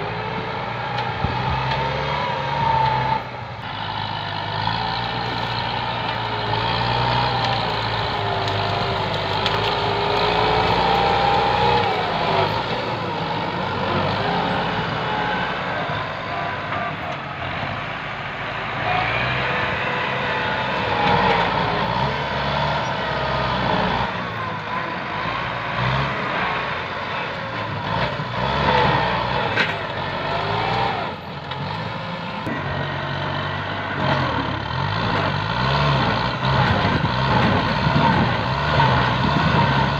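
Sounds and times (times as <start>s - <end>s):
tractor diesel engine working hard: 0.0s - 39.9s.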